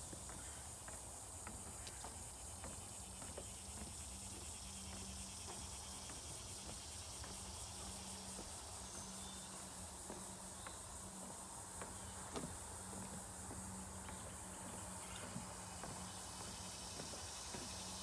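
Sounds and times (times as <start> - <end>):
footsteps on wooden boardwalk: 0.0 - 18.0
high-pitched insect chorus: 0.0 - 18.0.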